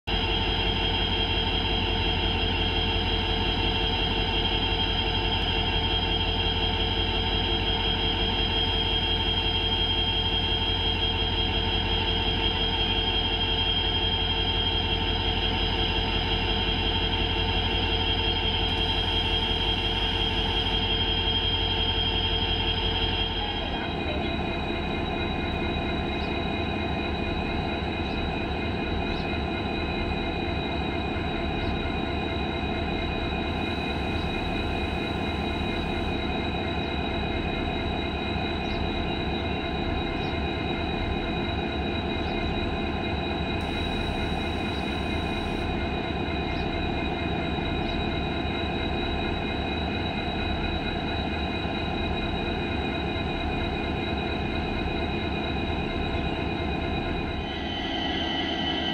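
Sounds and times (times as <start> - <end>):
diesel locomotives idling: 0.1 - 58.9.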